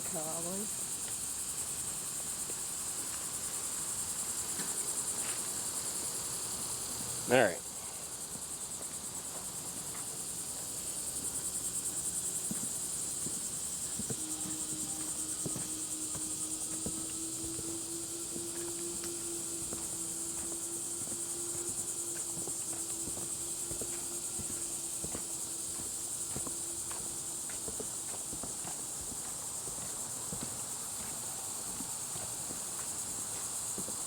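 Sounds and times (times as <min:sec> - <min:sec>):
insects trilling: 0:00.0 - 0:34.0
faint footsteps: 0:04.4 - 0:34.0.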